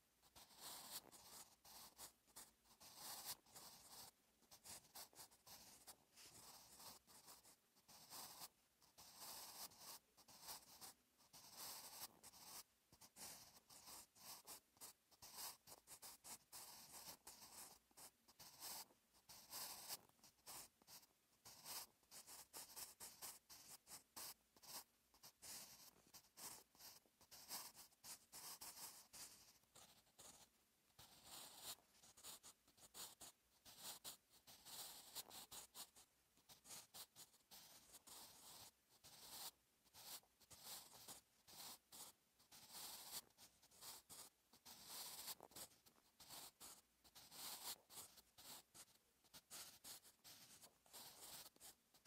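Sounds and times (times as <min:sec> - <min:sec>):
pencil scratching on paper: 0:00.2 - 0:52.0.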